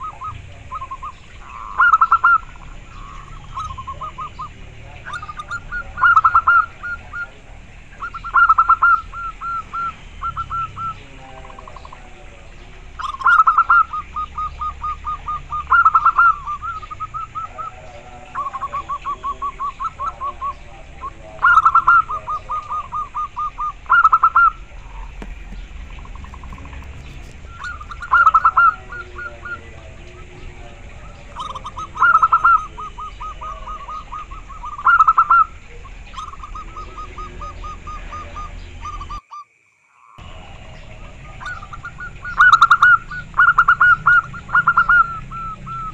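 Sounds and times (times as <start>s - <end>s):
dove cooing: 0.0s - 39.3s, 40.2s - 45.9s.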